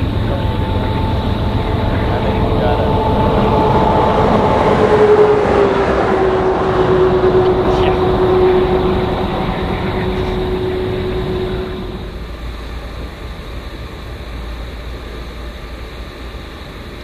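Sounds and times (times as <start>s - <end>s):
distant freight train rumble: 0.0s - 17.0s
steady hum: 0.0s - 17.0s.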